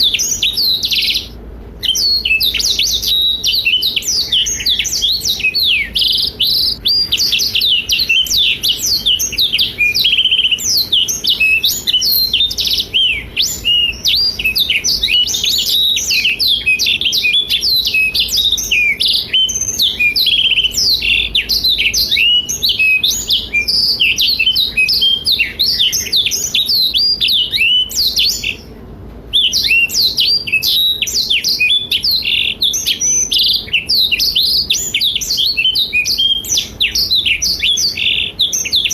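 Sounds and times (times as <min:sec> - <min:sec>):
canary singing high trills: 0:00.0 - 0:38.9.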